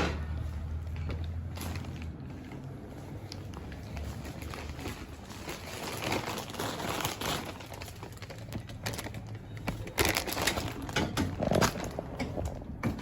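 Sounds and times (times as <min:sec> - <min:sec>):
packaging crinkling and rustling: 0:01.5 - 0:12.5.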